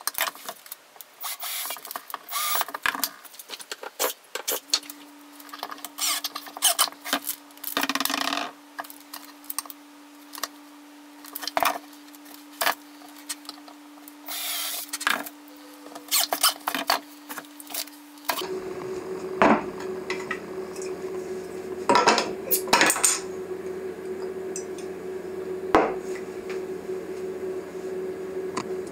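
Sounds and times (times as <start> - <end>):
steady hum: 4.6 - 28.9.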